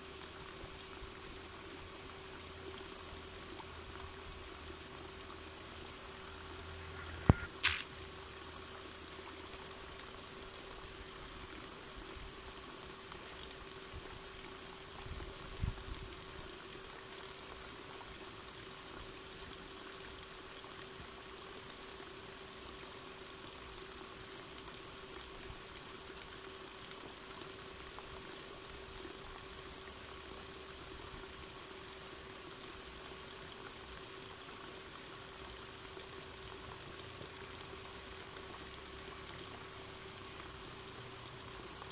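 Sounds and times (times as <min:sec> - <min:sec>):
faint outdoor hiss: 0:00.0 - 0:41.9
faint steady hum: 0:00.0 - 0:41.9.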